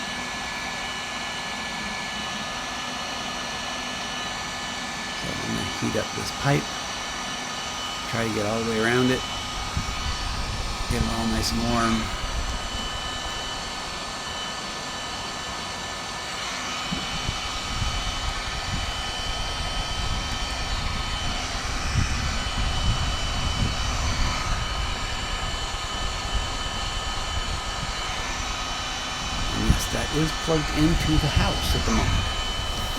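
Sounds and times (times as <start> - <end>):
heat gun blower hissing: 0.0 - 32.9.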